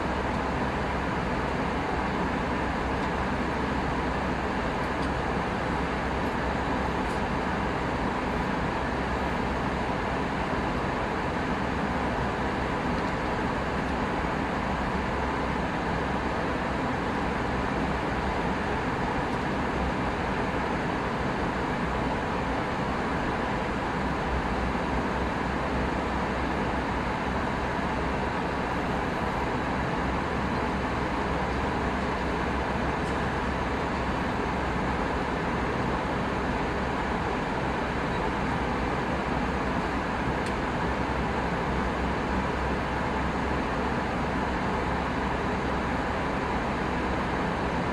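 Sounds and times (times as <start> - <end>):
jet engines droning: 0.0 - 47.9.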